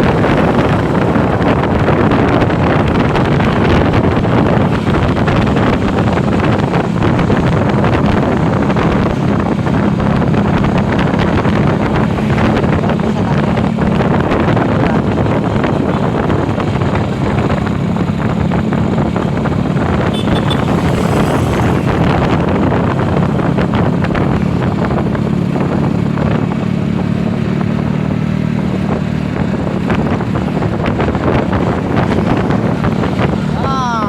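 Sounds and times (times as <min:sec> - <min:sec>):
vehicle engine running: 0:00.0 - 0:34.0
wind noise on microphone: 0:00.0 - 0:34.0.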